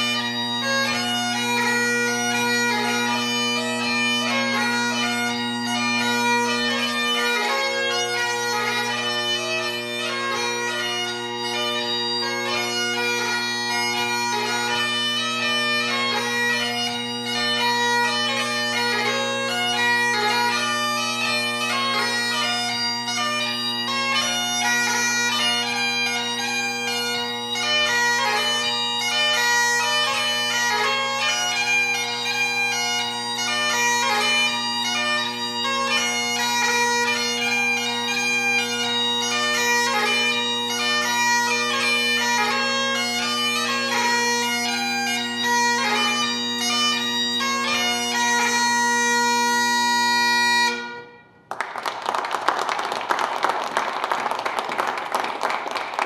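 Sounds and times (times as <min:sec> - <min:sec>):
bagpipe march: 0:00.0 - 0:56.0.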